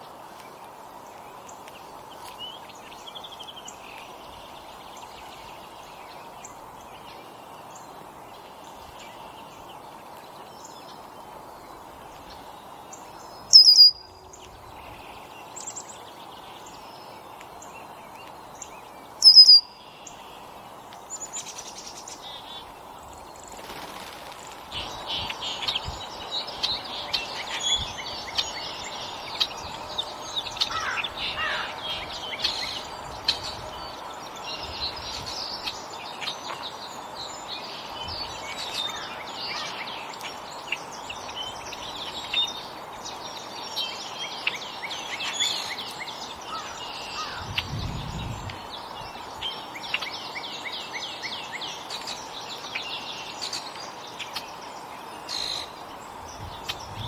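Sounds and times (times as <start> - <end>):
background hiss: 0.0 - 57.0
songbirds chirping: 0.0 - 57.0.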